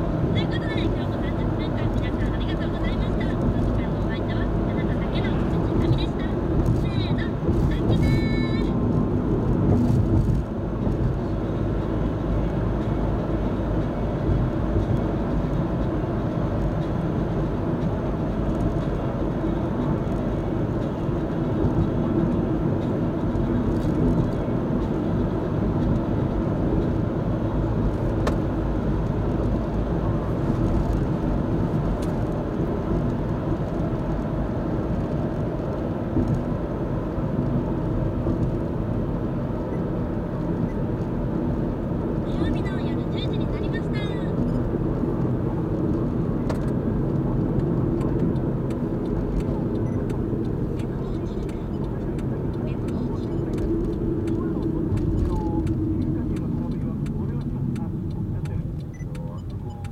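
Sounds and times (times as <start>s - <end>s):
car engine and tyre noise: 0.0s - 59.9s.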